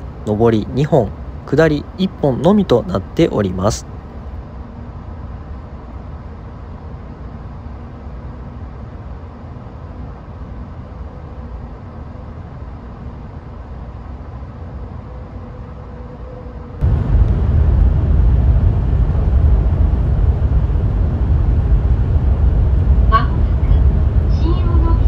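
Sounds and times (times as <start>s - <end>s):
train low hum: 0.0s - 25.0s
train rushing and rumbling: 0.0s - 25.0s.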